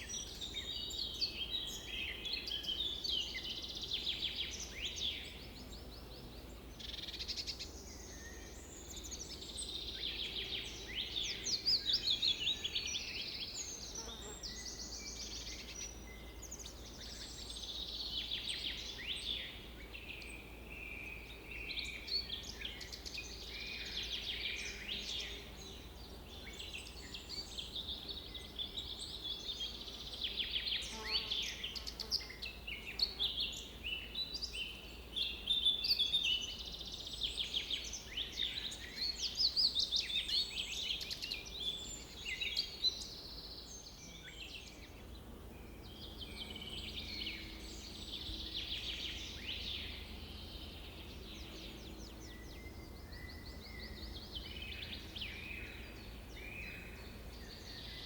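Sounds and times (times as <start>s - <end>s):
songbirds chirping and trilling: 0.0s - 58.0s
faint low background hum: 0.1s - 58.0s.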